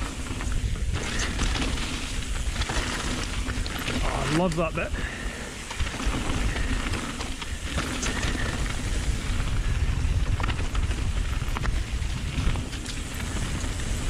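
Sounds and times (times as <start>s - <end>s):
bike clicks and rattles: 0.0s - 14.0s
tyre and wind rumble: 0.0s - 14.0s.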